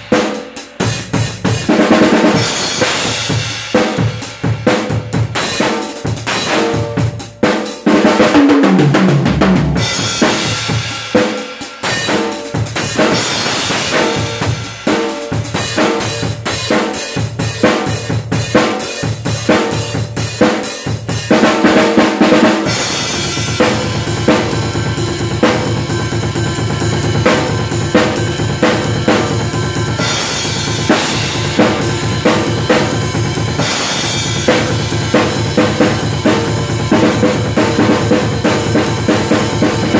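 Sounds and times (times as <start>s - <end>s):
drum kit played hard: 0.0s - 39.9s.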